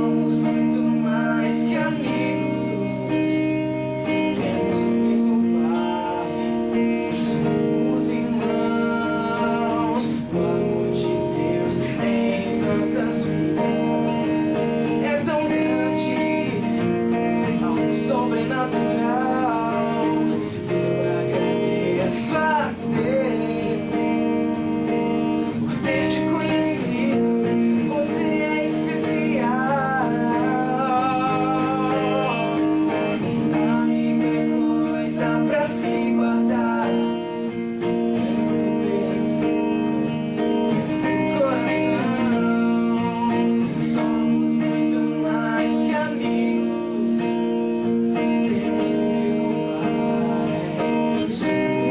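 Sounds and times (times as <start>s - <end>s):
person singing: 0.0s - 51.9s
strummed guitars: 0.0s - 51.9s.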